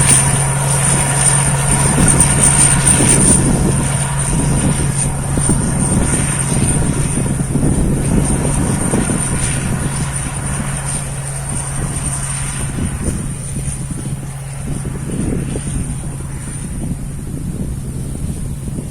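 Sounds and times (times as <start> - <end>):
combine harvester engine drone: 0.0 - 18.9
high whine: 0.0 - 18.9.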